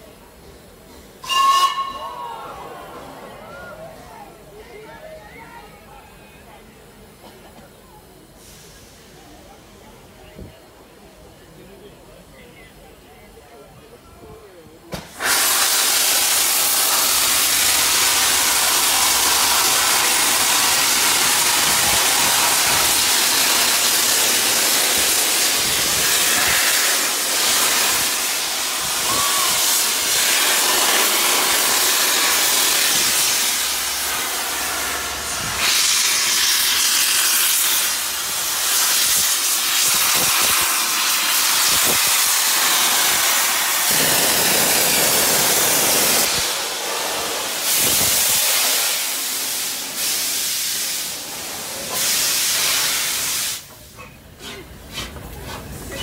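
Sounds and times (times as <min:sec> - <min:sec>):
steam hissing from locomotive: 0:06.9 - 0:11.5, 0:14.8 - 0:56.0.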